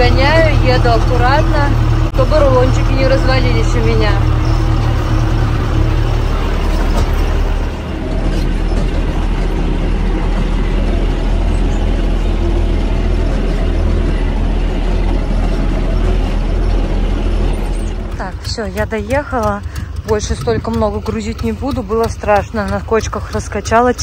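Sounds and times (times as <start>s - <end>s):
cab and trailer rattling: 0.0s - 24.0s
tractor engine running under load: 0.0s - 24.0s.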